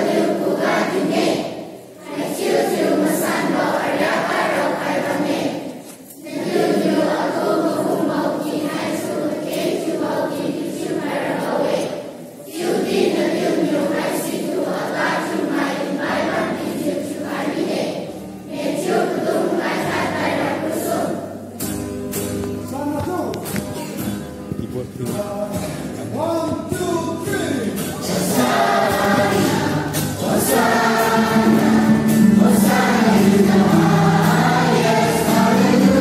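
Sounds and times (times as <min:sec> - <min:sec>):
children's choir singing: 0:00.0 - 0:21.6, 0:27.6 - 0:36.0.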